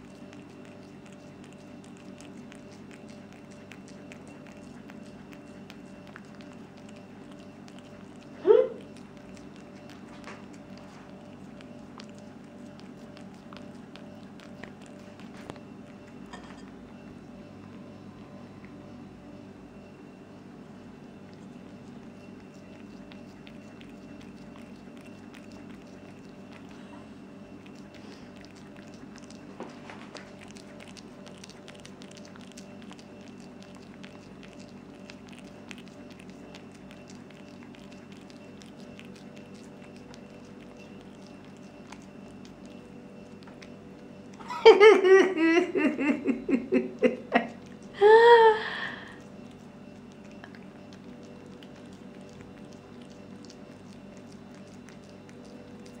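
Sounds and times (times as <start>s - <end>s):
cat licking and chewing: 0.0s - 56.0s
steady background hum: 0.0s - 56.0s.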